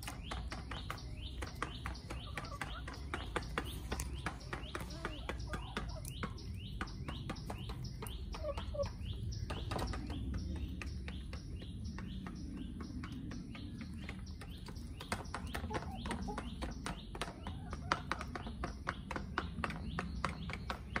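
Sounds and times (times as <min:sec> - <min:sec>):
chickens pecking at dish: 0:00.0 - 0:21.0
small bird chirping: 0:00.0 - 0:21.0.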